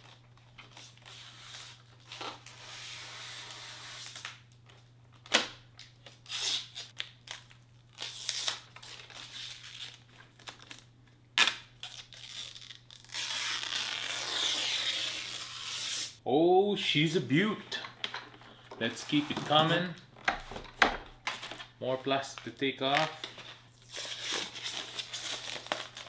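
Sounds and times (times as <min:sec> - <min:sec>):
plastic film peeling and crinkling: 0:00.0 - 0:16.2, 0:18.0 - 0:26.0.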